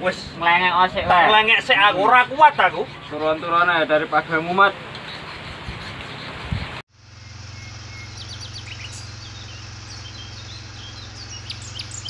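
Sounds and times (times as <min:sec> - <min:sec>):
birds chirping: 0:00.0 - 0:12.0
steady low hum: 0:01.6 - 0:12.0.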